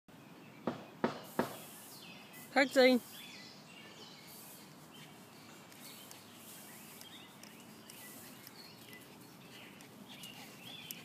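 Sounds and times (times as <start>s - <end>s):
faint birds chirping: 0.1s - 11.0s
steady background hiss: 0.2s - 11.0s.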